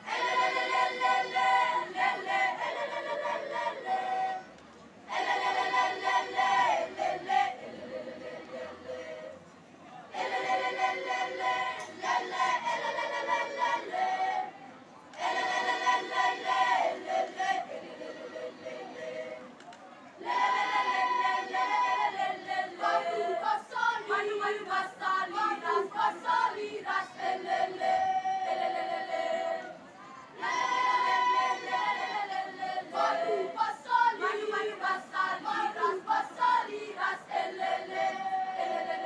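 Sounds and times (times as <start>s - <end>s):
choir singing: 0.0s - 9.5s, 10.1s - 19.5s, 20.2s - 29.8s, 30.4s - 39.0s.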